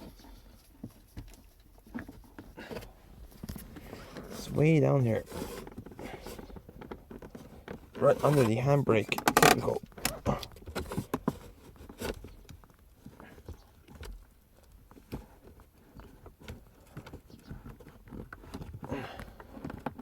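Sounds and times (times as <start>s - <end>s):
light clicks and knocks of plastic: 0.0s - 20.0s.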